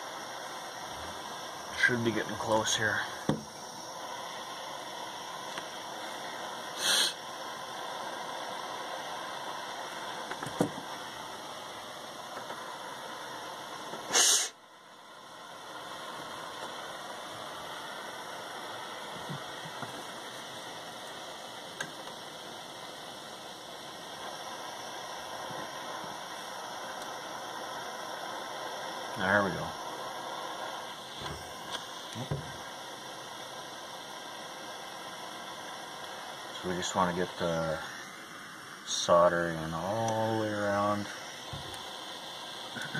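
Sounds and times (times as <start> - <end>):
loud flame puff: 0.0 - 36.9, 40.2 - 42.9
torch flame hissing: 0.0 - 42.9.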